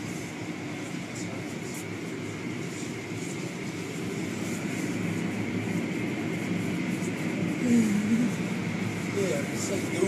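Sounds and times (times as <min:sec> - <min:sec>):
car wash machinery rumbling: 0:00.0 - 0:10.0.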